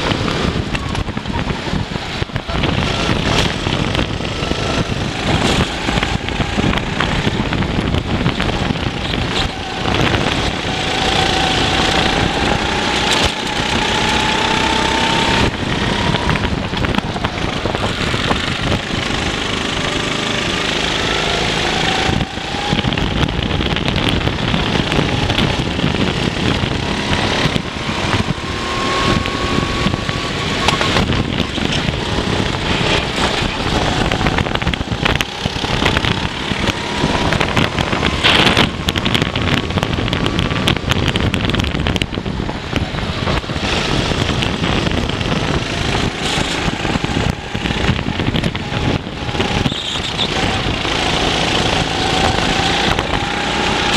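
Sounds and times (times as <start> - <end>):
kart engine at full throttle: 0.0 - 53.9
rushing wind noise: 0.0 - 53.9.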